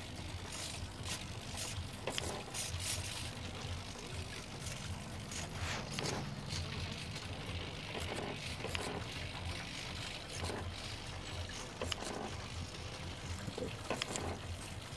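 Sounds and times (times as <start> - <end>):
small servos whirring: 0.0 - 14.9
steady low hum: 0.0 - 14.9.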